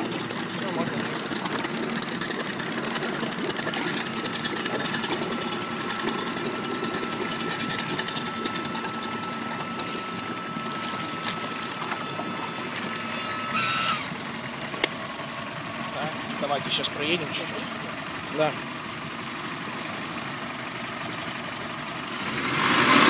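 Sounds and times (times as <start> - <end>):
short water rush: 0.0 - 18.9, 22.0 - 23.0
boat engine idling: 0.0 - 23.0
propeller churning water: 0.0 - 23.0
thin steady whine: 0.0 - 23.0.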